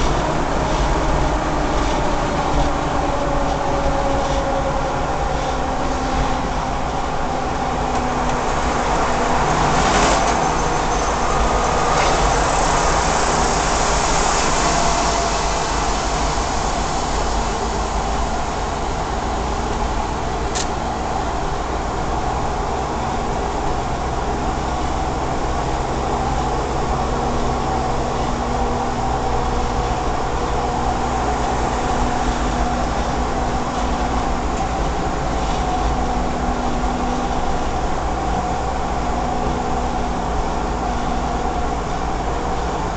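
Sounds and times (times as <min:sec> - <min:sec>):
low engine hum: 0:00.0 - 0:42.9
road and tyre noise: 0:00.0 - 0:42.9.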